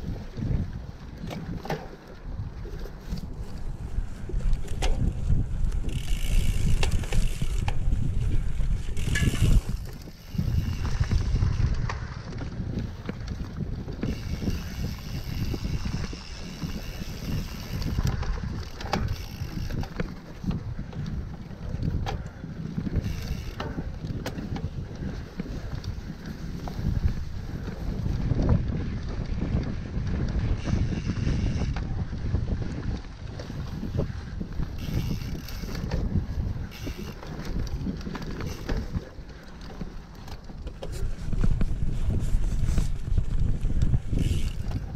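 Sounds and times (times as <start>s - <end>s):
bike clicking and rattling: 0.0s - 44.9s
bike tyres rumbling on dirt: 0.0s - 44.9s
wind buffeting microphone: 0.0s - 44.9s.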